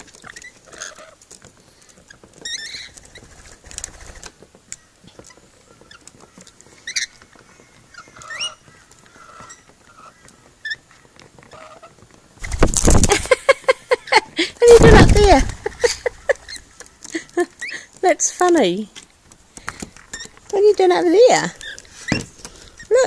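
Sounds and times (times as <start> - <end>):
parrots chirping and squeaking: 0.0 - 4.2, 5.1 - 23.0
faint clicking and scratching: 0.0 - 23.0.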